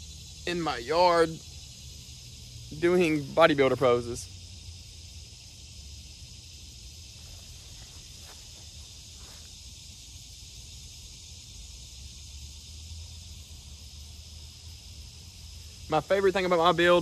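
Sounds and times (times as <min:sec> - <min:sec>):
insect chorus drone: 0:00.0 - 0:17.0.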